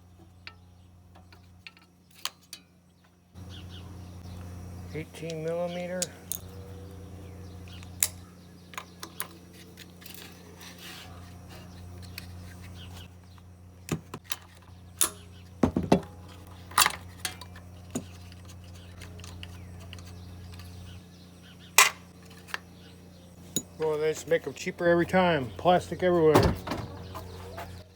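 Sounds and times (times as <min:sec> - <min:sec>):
tools and metal parts clinking: 0:00.0 - 0:03.2, 0:05.0 - 0:06.9, 0:07.5 - 0:27.8
steady low hum: 0:00.0 - 0:27.9.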